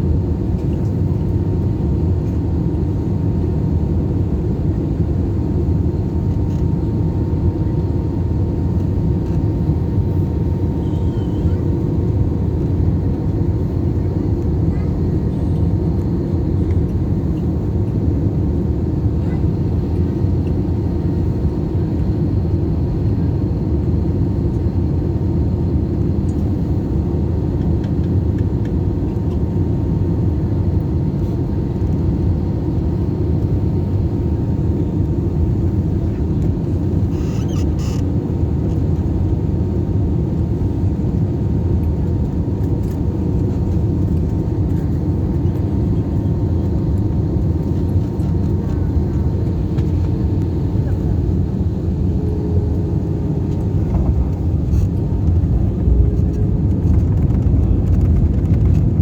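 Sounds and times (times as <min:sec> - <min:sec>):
airliner engines and airflow rumble: 0:00.0 - 0:59.0.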